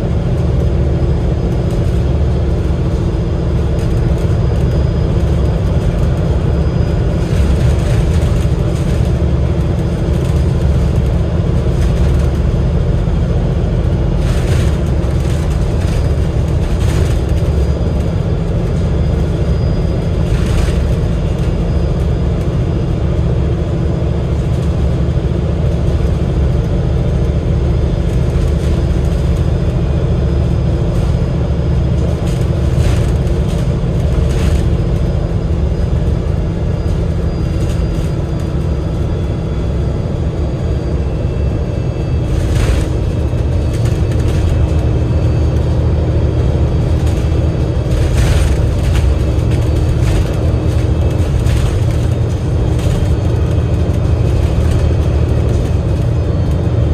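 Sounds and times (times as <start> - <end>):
bus engine drone: 0.0 - 56.9
low road rumble: 0.0 - 56.9.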